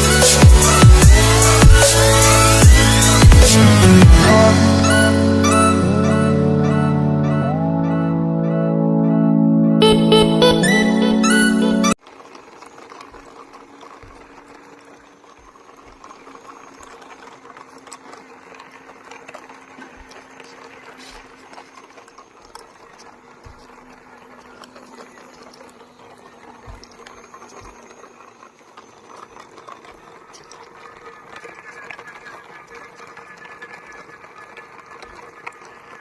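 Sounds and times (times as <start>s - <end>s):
toy train motor whirring: 0.0s - 6.2s, 10.6s - 36.0s.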